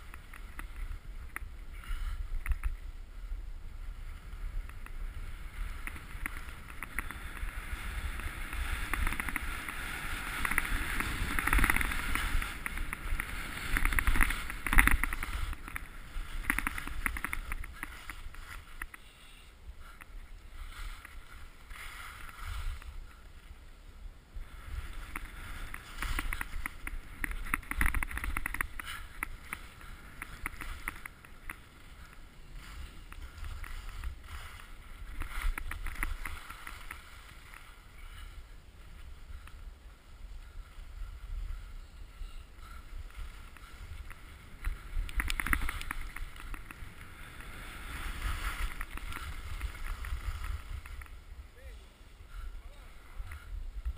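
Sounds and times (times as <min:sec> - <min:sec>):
wind rumble on microphone: 0:00.0 - 0:19.0, 0:19.6 - 0:53.9
skis scraping on snow: 0:00.0 - 0:53.9.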